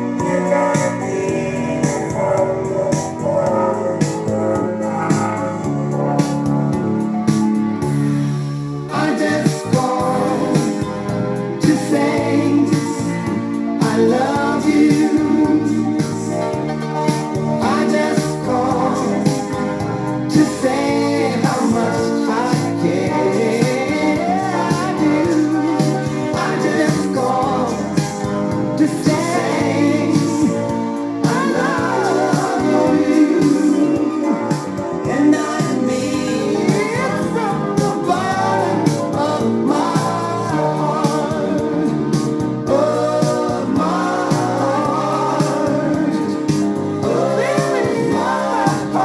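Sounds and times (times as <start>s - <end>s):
song with singing over instruments: 0.0s - 49.0s.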